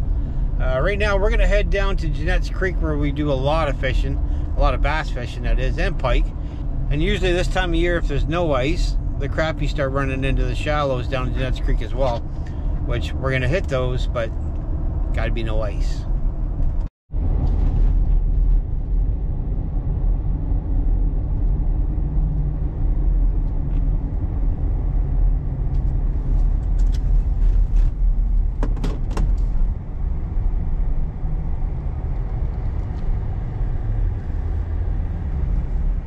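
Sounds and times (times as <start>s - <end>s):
tyres and engine rumble: 0.0s - 36.0s.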